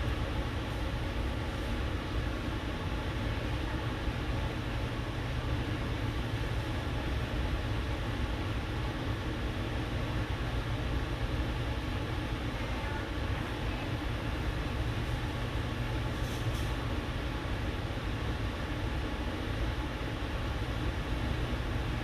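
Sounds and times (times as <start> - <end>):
low rumble with hiss: 0.0 - 22.0.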